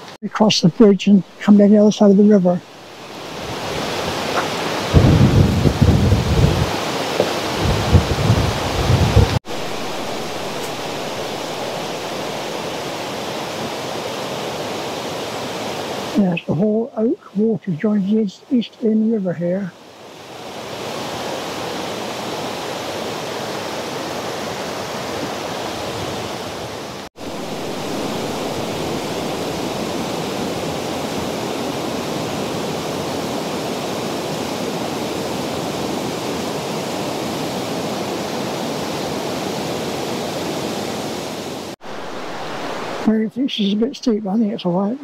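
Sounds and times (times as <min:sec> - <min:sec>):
river water rushing: 0:00.0 - 0:17.2, 0:19.6 - 0:43.2.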